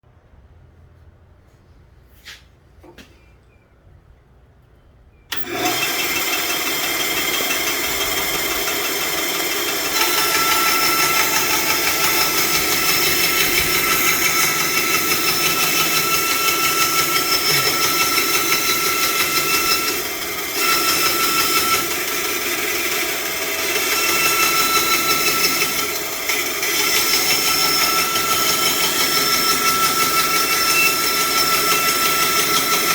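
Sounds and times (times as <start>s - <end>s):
bandsaw motor and blade hum: 5.3s - 32.9s.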